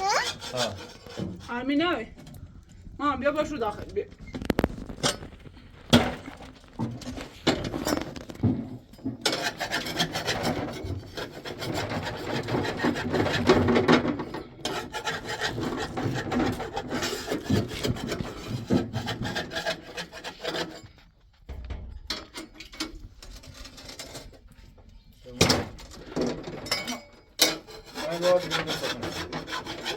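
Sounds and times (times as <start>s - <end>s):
scraping and rubbing: 0.0s - 2.5s, 3.4s - 21.2s, 22.9s - 24.9s, 27.5s - 29.9s.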